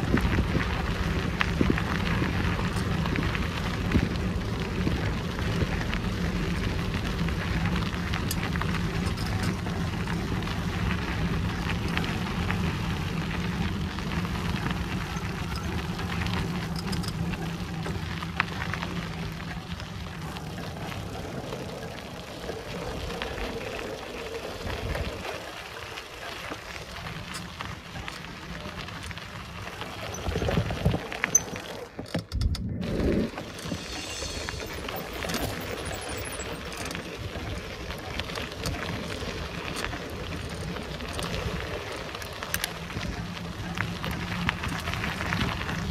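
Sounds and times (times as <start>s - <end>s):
bicycle tyres rolling on track: 0.0s - 45.9s
small crackles: 0.0s - 45.9s.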